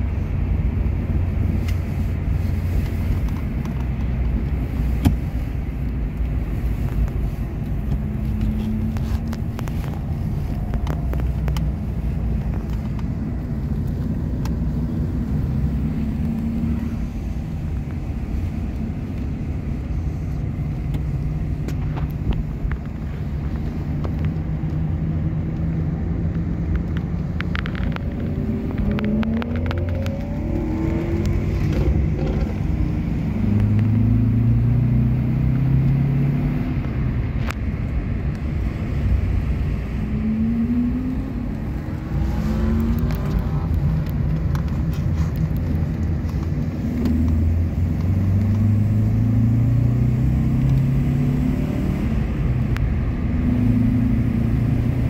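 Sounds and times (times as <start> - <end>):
car engine accelerating through gears: 0.0 - 55.0.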